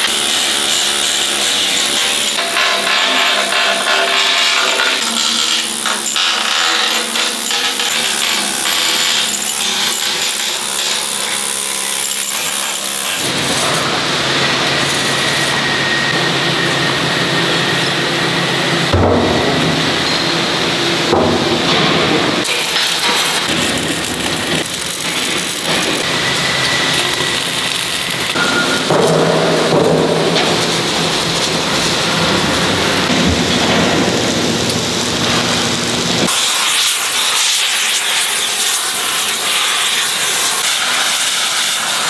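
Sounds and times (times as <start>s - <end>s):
arc welding crackling hiss: 0.0s - 13.9s, 14.5s - 15.7s, 21.5s - 42.0s
pneumatic chipping tool chattering: 0.0s - 15.6s, 22.4s - 31.8s, 33.0s - 42.0s.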